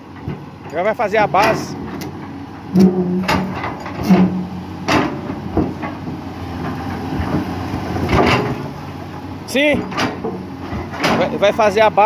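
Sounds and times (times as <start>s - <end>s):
excavator diesel engine running: 0.0s - 12.0s
steel bucket clanking against rocks: 0.1s - 12.0s.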